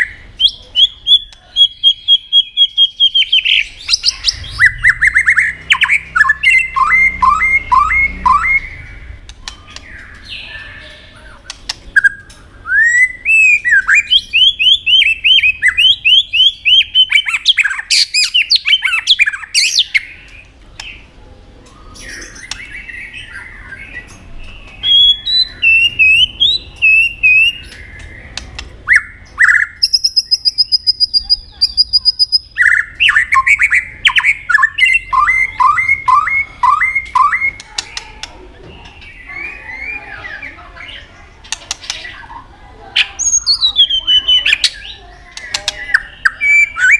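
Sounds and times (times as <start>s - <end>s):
songbird singing varied song: 0.0s - 42.4s, 43.0s - 46.9s.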